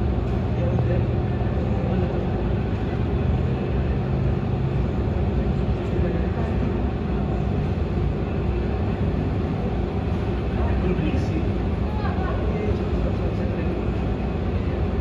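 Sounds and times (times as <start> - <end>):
airliner engines rumbling: 0.0 - 15.0.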